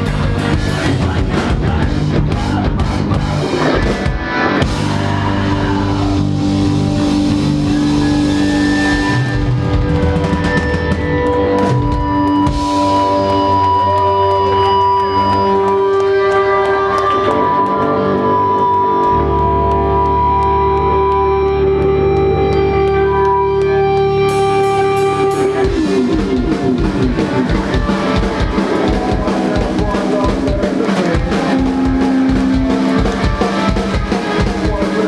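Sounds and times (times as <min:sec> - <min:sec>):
deep heavy bass: 0:00.0 - 0:15.8, 0:17.4 - 0:35.0
rock band playing live: 0:00.0 - 0:35.0.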